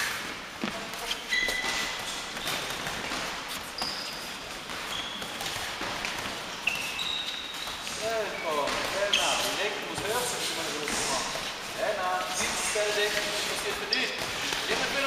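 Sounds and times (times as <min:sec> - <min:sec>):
sport shoes squeaking on floor: 0:00.0 - 0:15.0.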